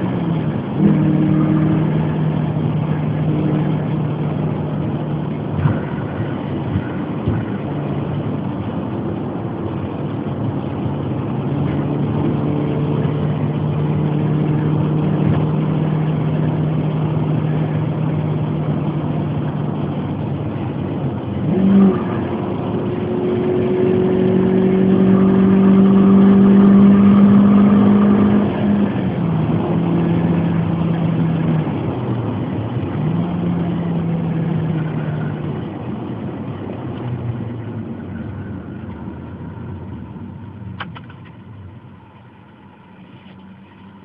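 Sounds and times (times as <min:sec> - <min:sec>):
car engine heard inside cabin: 0:00.0 - 0:44.0.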